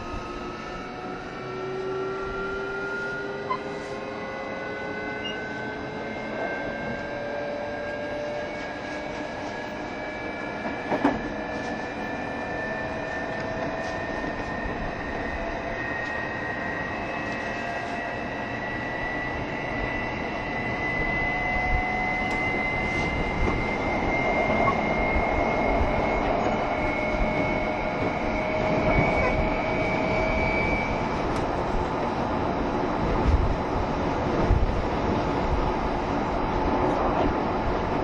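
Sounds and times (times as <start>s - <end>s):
train motor whine: 0.0s - 35.7s
wheels rumbling on rail: 0.0s - 38.0s.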